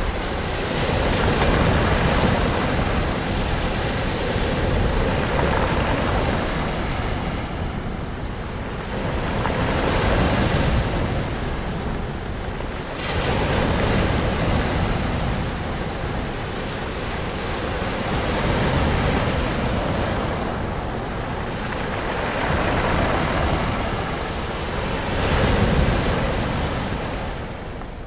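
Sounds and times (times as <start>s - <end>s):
ocean waves washing ashore: 0.0s - 28.0s.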